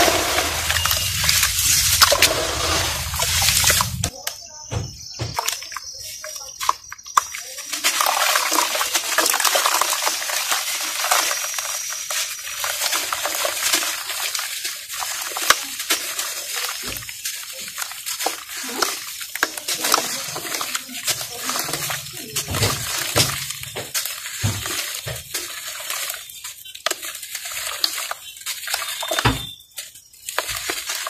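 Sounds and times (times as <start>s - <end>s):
wet crumbs falling into water: 0.0s - 4.4s, 5.2s - 31.0s.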